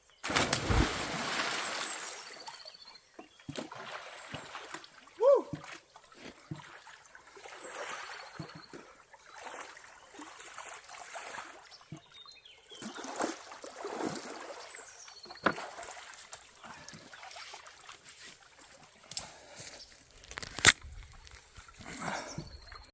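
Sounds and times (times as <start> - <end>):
water splashing and trickling: 0.2 - 22.9.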